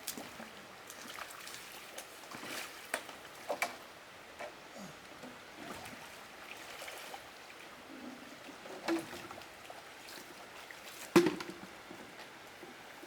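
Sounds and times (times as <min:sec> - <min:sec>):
water trickling and splashing: 0:00.0 - 0:03.9, 0:05.4 - 0:13.0.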